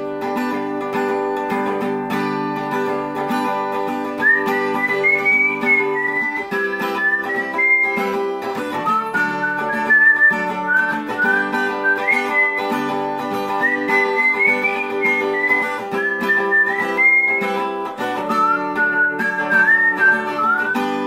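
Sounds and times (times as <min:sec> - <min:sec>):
acoustic guitar: 0:00.0 - 0:21.0
whistled melody: 0:03.2 - 0:21.0.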